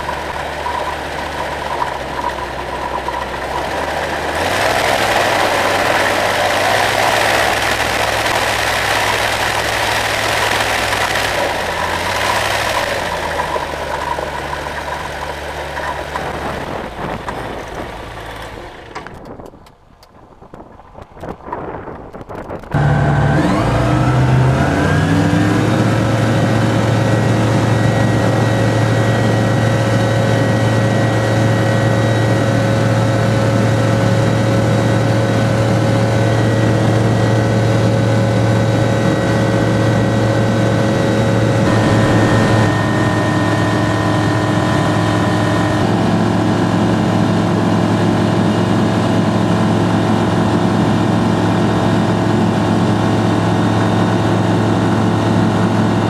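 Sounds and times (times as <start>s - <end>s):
light aircraft engine and propeller: 0.0s - 56.0s.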